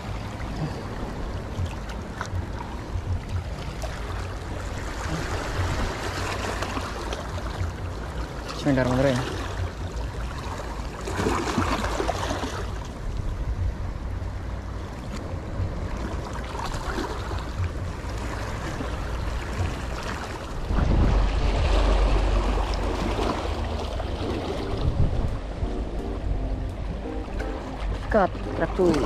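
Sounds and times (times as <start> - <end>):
low rumble: 0.0 - 8.5, 12.6 - 29.0
waves lapping against rocks: 0.0 - 25.6, 27.3 - 29.0.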